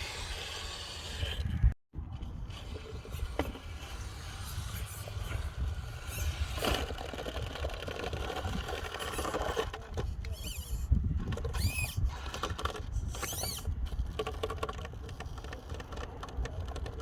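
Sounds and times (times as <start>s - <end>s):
radio-controlled truck running: 0.0s - 17.0s
wind buffeting microphone: 1.1s - 17.0s.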